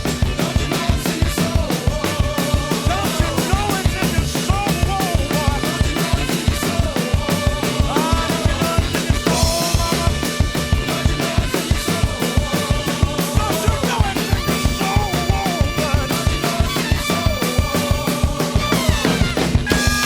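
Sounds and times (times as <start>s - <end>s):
drum kit funk groove: 0.0s - 20.0s
recorded band track: 0.0s - 20.0s.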